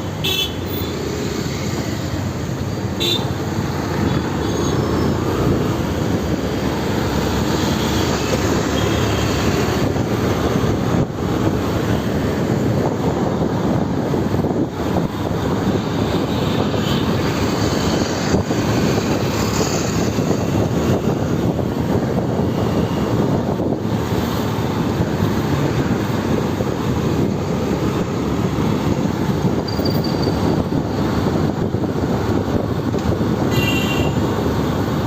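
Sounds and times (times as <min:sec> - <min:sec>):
wind buffeting microphone: 0:00.9 - 0:33.6.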